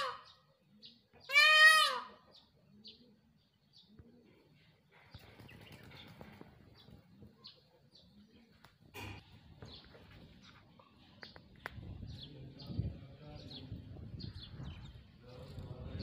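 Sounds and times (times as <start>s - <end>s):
small birds chirping: 0.1s - 1.4s, 2.1s - 16.0s.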